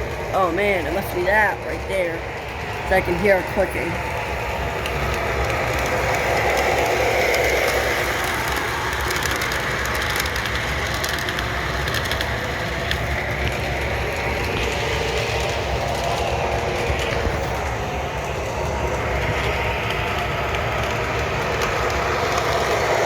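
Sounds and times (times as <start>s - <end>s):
model train whirring rumble: 0.0s - 23.0s.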